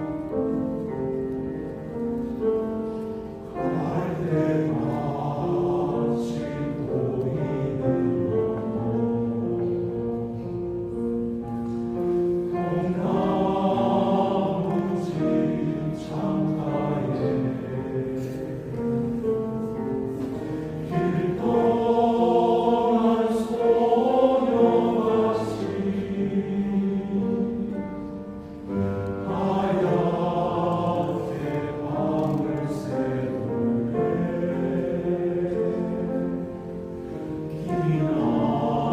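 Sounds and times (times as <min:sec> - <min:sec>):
men's choir singing: 0:02.0 - 0:10.4, 0:12.1 - 0:38.9.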